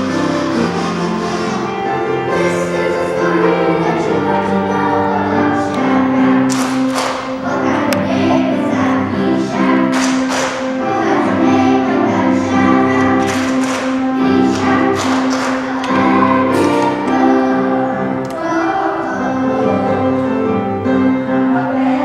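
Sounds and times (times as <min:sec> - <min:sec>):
children's choir singing: 0:00.0 - 0:22.0
musical accompaniment: 0:00.0 - 0:22.0.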